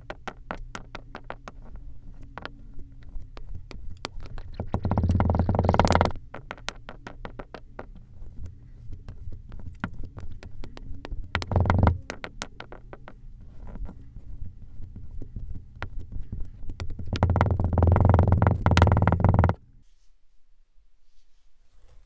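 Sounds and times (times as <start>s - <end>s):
low hum: 0.0s - 21.4s.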